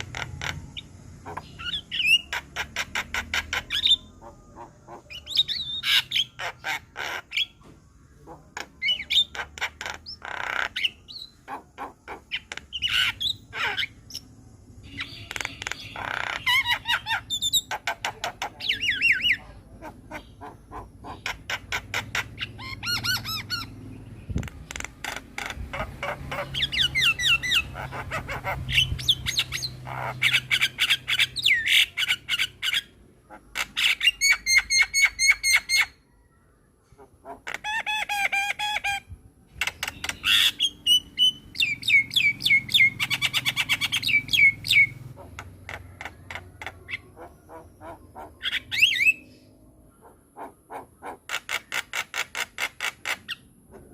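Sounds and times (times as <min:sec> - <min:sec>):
bird singing with squawks and whistles: 0:00.0 - 0:53.9.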